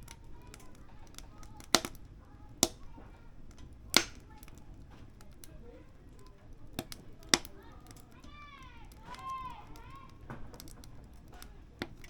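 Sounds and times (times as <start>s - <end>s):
firewood crackling in stove: 0.0s - 12.0s.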